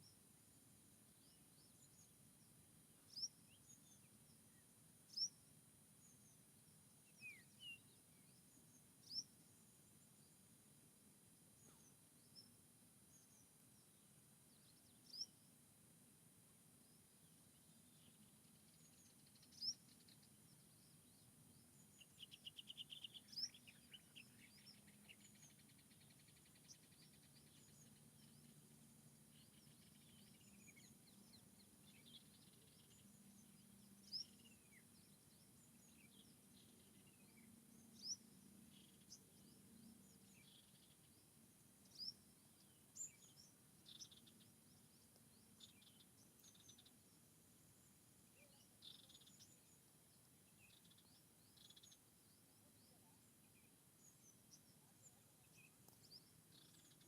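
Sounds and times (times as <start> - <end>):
faint low hum: 0.0 - 57.0
songbirds chirping: 0.0 - 57.0.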